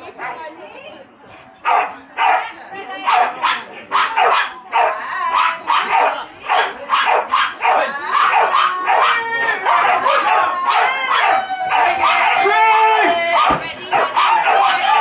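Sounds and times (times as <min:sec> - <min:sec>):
dogs barking and yelping: 0:01.6 - 0:12.6, 0:13.2 - 0:15.0.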